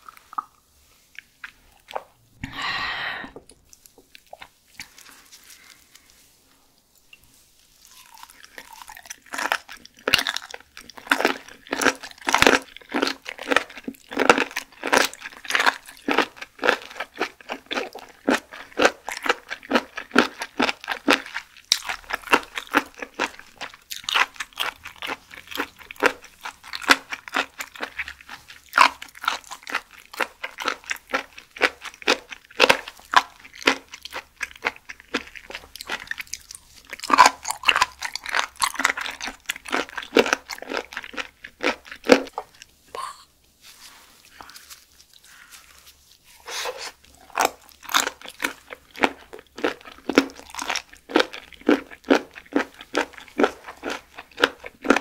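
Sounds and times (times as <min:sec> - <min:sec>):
wet crunching chewing: 0:07.8 - 0:42.7, 0:44.2 - 0:55.0.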